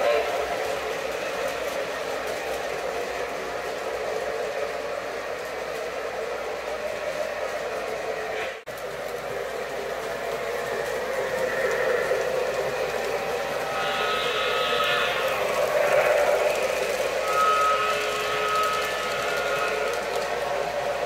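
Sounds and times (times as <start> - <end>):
model train motors: 0.0 - 21.0
model train wheels rolling on rails: 0.0 - 21.0.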